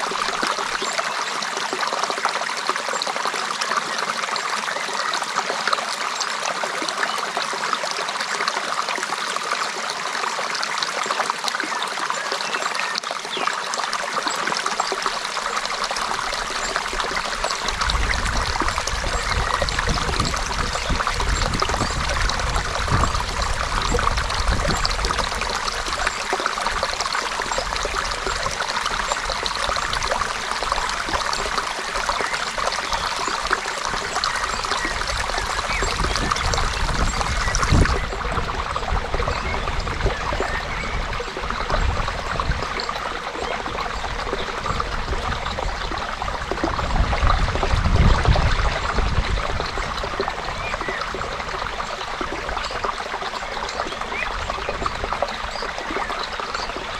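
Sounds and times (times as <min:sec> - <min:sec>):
creek water babbling: 0:00.0 - 0:56.9.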